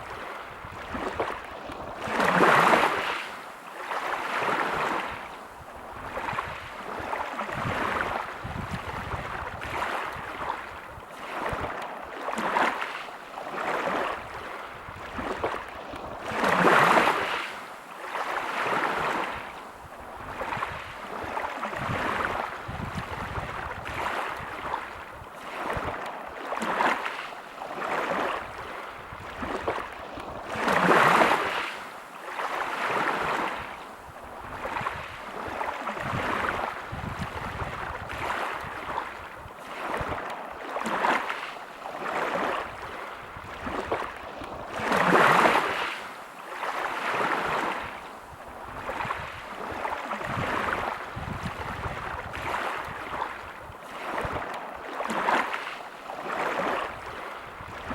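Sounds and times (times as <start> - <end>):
waves breaking on pebble beach: 0.0 - 57.9.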